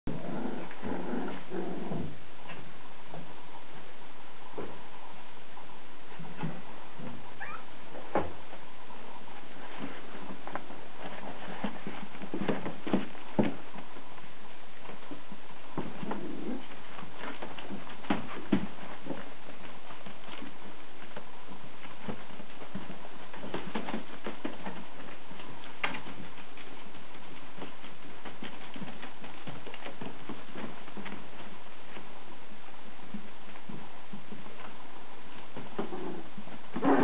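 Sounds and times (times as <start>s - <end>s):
puppies moving and playing: 0.1s - 37.0s.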